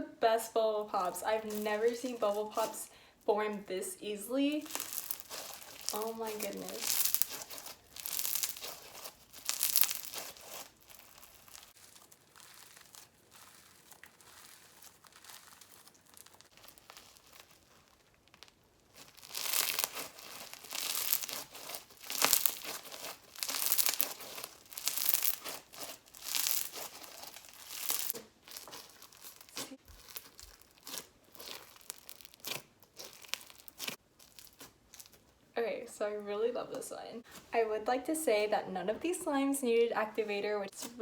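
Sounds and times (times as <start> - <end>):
slime beads crunching and crackling: 0.8 - 35.5.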